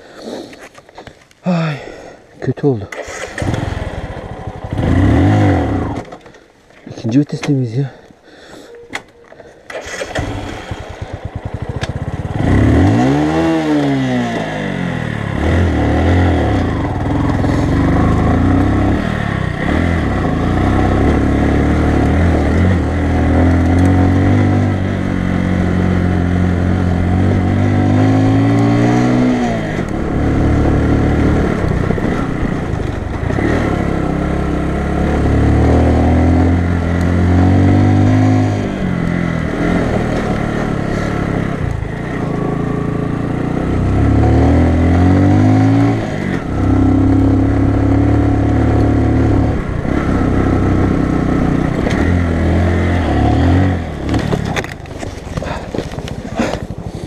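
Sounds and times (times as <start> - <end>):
motorcycle engine revving: 2.9 - 6.4, 9.7 - 57.0.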